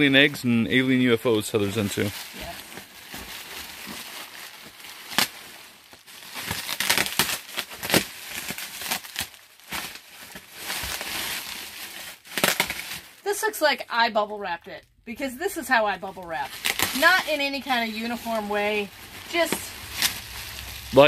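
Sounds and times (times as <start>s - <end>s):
bubble wrap crinkling and crackling: 0.0s - 14.0s, 15.4s - 21.0s.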